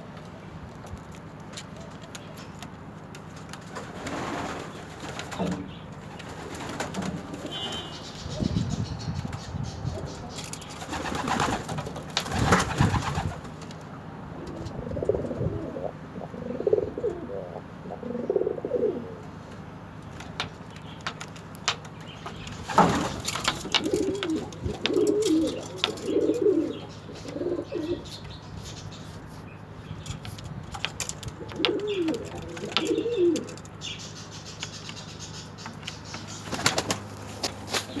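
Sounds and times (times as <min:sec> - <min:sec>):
pigeons cooing: 0:01.7 - 0:13.6, 0:14.2 - 0:21.2, 0:21.8 - 0:38.0.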